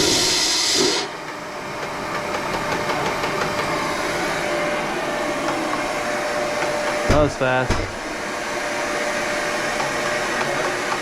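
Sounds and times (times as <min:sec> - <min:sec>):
dust extraction vacuum humming: 0:00.0 - 0:11.0.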